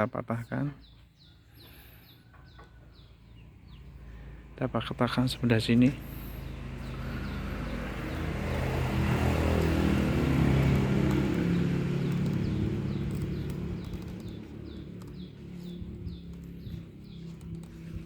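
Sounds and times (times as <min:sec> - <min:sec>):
vehicle engine passing by: 0:03.3 - 0:18.0.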